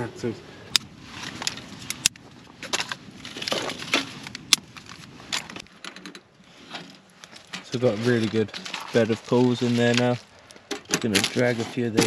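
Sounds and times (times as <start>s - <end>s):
twigs cracking and clicking: 0.7s - 12.0s
sticks rustling and scraping: 0.8s - 12.0s.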